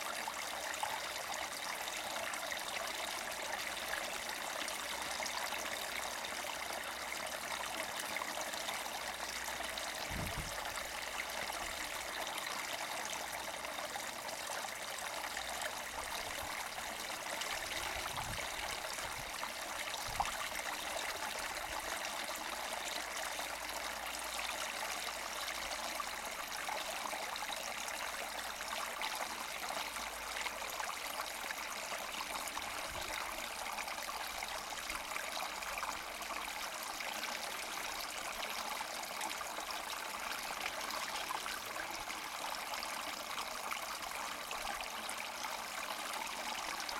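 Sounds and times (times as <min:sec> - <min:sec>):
brook gurgling and trickling: 0:00.0 - 0:46.9.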